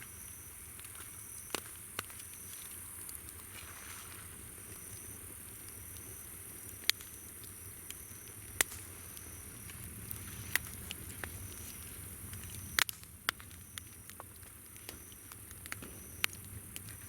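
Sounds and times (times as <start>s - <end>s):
wood campfire crackling: 0.0s - 17.0s.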